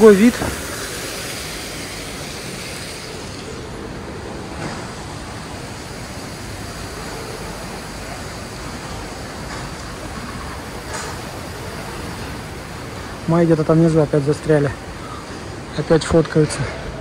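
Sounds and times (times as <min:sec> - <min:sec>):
city ambience: 0:00.0 - 0:17.0.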